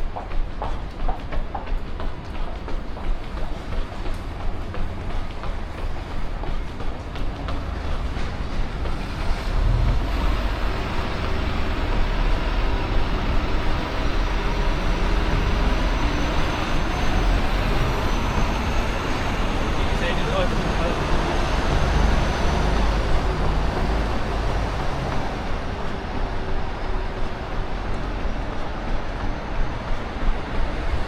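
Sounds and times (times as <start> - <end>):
city road traffic: 0.0 - 31.0
steady low rumble: 0.0 - 31.0
heavy vehicle passing: 5.8 - 31.0.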